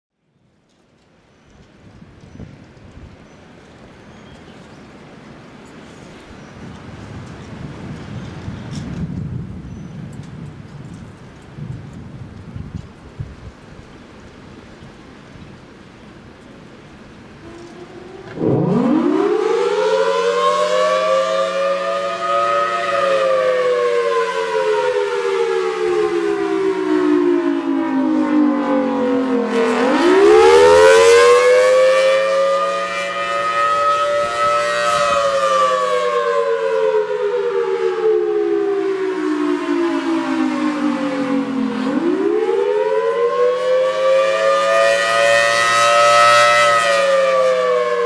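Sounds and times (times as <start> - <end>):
two-tone warning siren: 3.4 - 12.3, 16.3 - 48.0.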